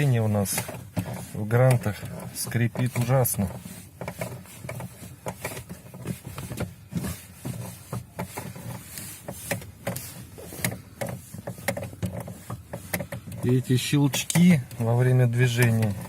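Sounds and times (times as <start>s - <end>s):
clutch pedal squeaking and clicking: 0.0s - 16.0s.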